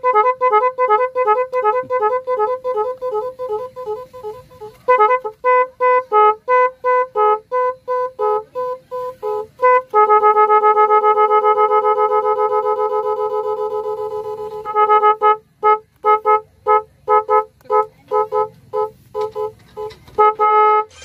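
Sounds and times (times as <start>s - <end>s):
electronic motorcycle horn beeping: 0.0s - 21.0s.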